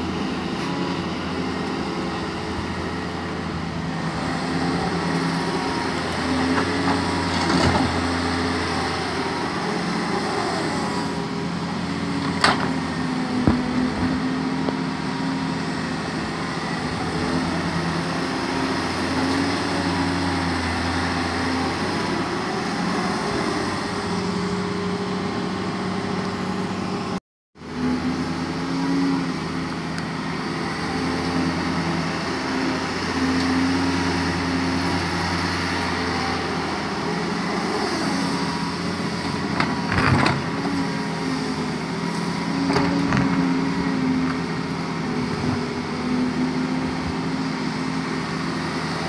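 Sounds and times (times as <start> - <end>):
excavator diesel engine: 0.0 - 49.0.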